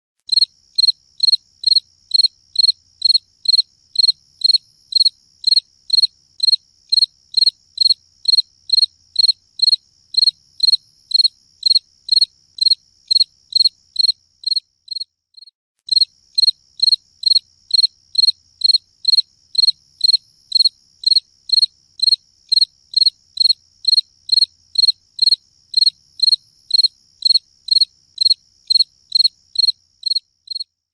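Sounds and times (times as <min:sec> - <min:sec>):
cricket chirping: 0:00.3 - 0:30.8.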